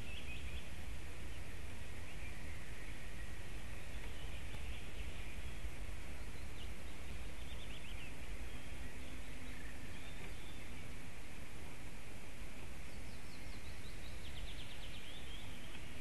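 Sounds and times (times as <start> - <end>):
outdoor background hiss: 0.0 - 16.0
wild birds chirping: 0.0 - 16.0.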